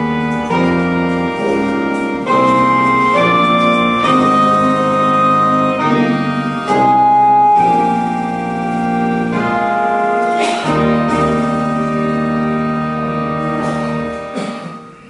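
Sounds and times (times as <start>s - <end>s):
slow organ chords: 0.0s - 15.0s.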